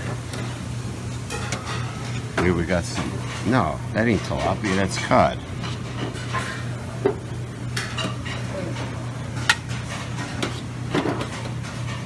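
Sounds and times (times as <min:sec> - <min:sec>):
metal utensils clinking on pans: 0:01.2 - 0:06.8, 0:07.7 - 0:12.0.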